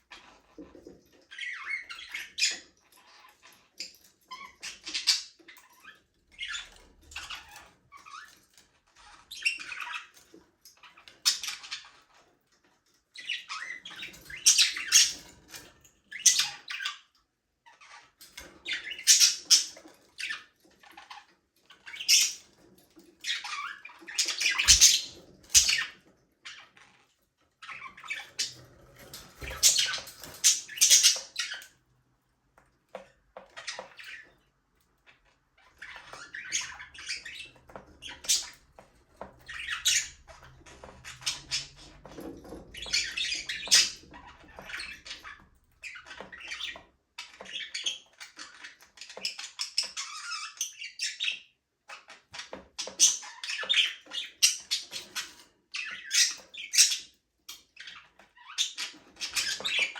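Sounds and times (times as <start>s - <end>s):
budgerigars chirping and squawking: 0.0s - 31.9s, 32.6s - 59.9s.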